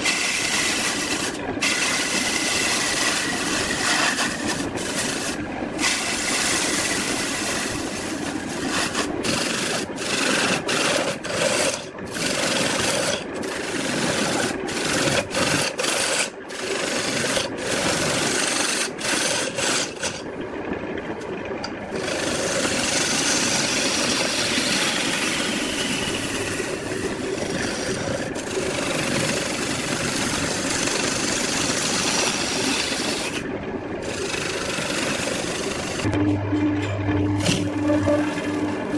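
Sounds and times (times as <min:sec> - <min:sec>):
lathe gouge scraping wood: 0:00.0 - 0:20.2, 0:21.9 - 0:36.2, 0:37.4 - 0:38.9.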